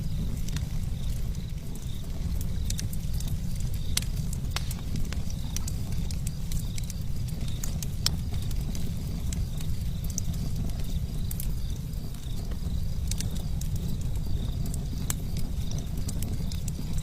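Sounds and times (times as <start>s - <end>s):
fire crackling and snapping: 0.0s - 17.0s.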